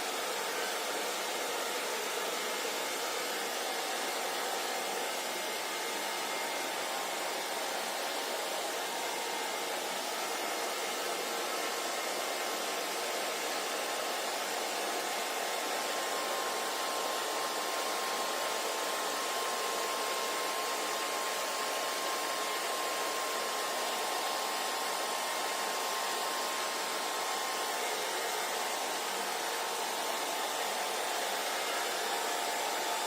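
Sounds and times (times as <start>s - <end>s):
hair dryer running: 0.0s - 33.0s.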